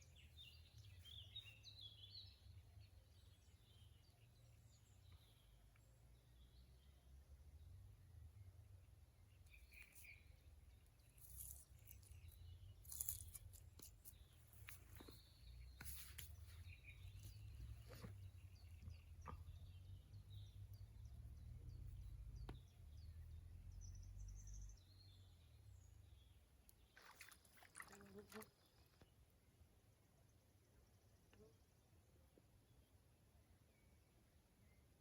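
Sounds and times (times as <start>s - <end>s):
faint birdsong chirps: 0.0s - 35.0s.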